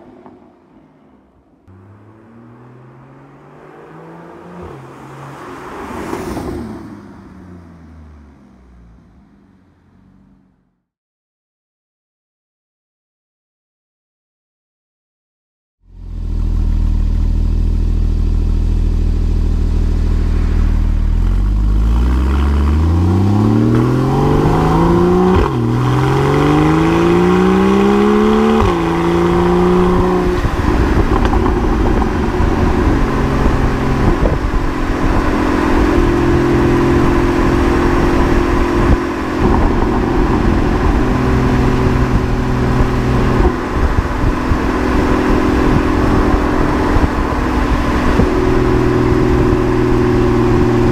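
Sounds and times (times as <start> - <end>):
sports car engine accelerating: 1.6 - 10.8, 15.9 - 50.9.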